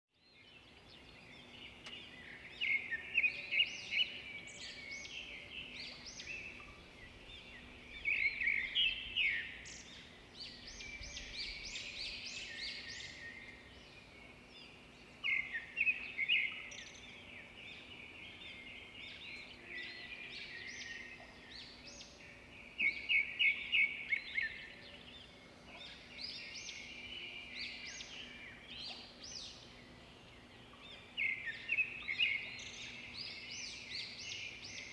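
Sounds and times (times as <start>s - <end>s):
small birds chirping and singing: 0.2s - 34.9s.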